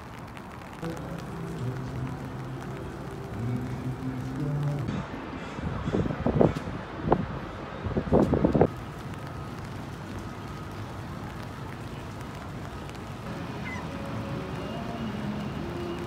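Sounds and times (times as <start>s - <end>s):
city background rumble: 0.0s - 16.0s.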